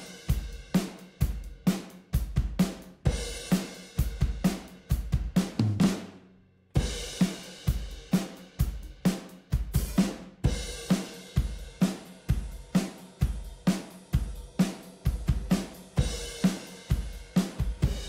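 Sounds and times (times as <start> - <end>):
rock drum beat: 0.0 - 6.1, 6.8 - 18.0.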